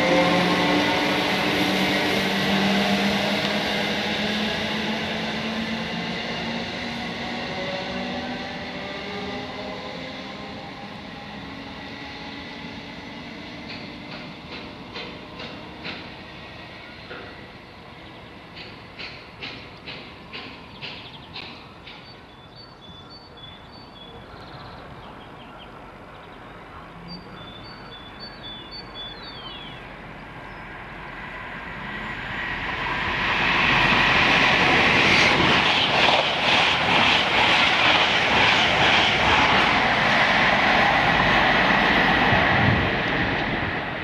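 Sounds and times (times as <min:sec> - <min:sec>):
train passing at speed: 0:00.0 - 0:44.0.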